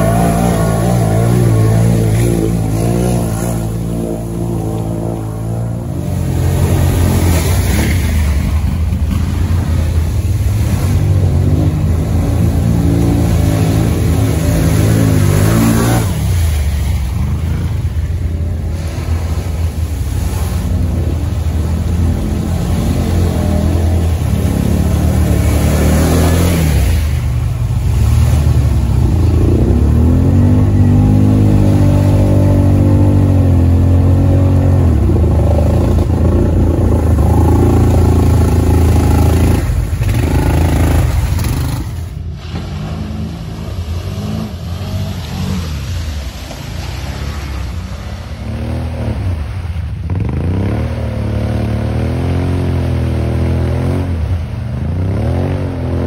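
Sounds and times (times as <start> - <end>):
atv engines revving: 0.0 - 56.0
vehicles pushing through mud and water: 0.0 - 56.0.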